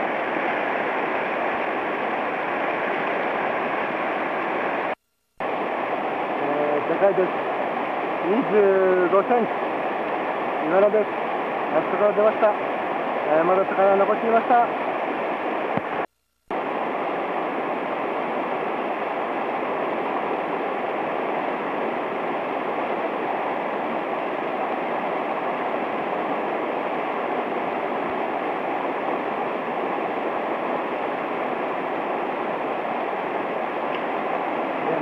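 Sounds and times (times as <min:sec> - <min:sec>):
mountain stream rushing: 0:00.0 - 0:35.0.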